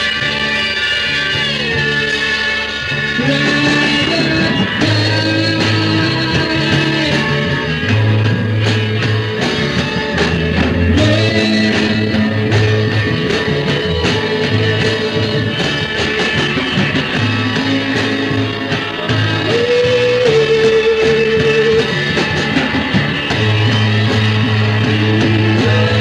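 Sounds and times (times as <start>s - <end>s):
rock band music: 0.0s - 26.0s.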